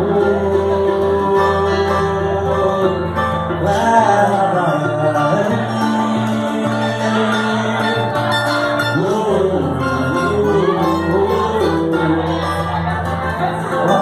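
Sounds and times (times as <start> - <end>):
bass line: 0.0 - 14.0
plucked strings: 0.0 - 14.0.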